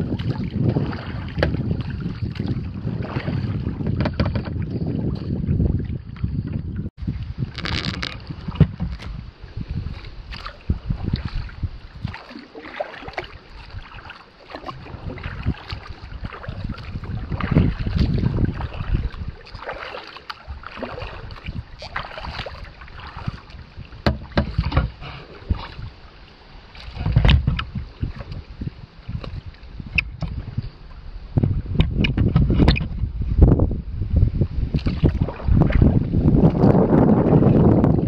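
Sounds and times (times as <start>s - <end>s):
wind buffeting microphone: 0.0s - 12.3s, 13.0s - 19.8s, 20.4s - 38.0s
paddles splashing in water: 0.0s - 33.1s, 34.6s - 38.0s.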